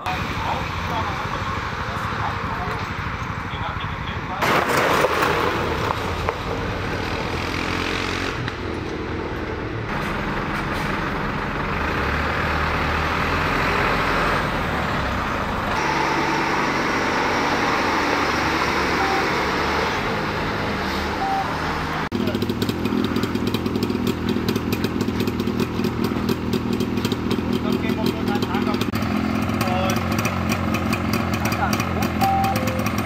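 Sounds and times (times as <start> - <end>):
atv engine on gravel road: 0.0 - 33.0
diesel fire engines driving: 0.0 - 33.0.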